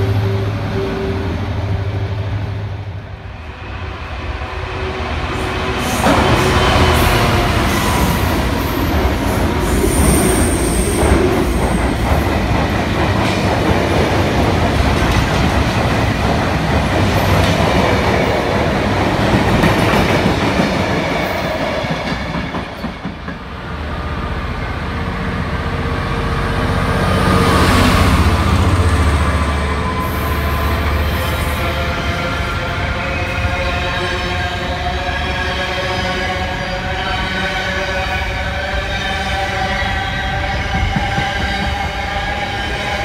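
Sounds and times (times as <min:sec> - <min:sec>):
diesel locomotive engine: 0:00.0 - 0:43.0
wagons rumbling over rails: 0:00.0 - 0:43.0.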